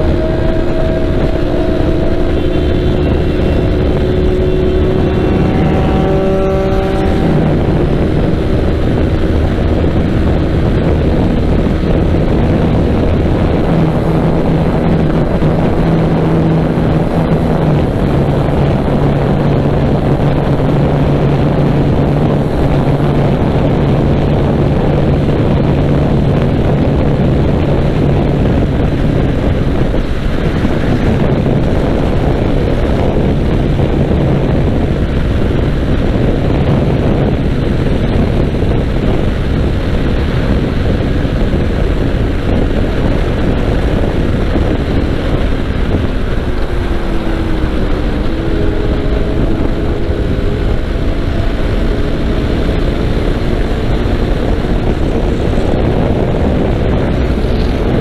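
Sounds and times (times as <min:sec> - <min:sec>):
heavy wind noise: 0:00.0 - 0:58.0
motorcycle engine pulling hard: 0:00.0 - 0:58.0.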